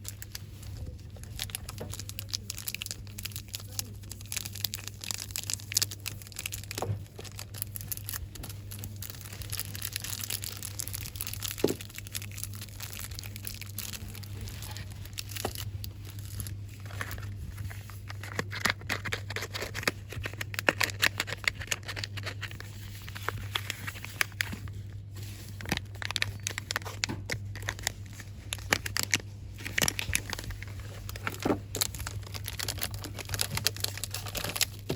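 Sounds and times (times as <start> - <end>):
packaging crinkling and rustling: 0.0 - 34.9
steady low hum: 0.0 - 34.9.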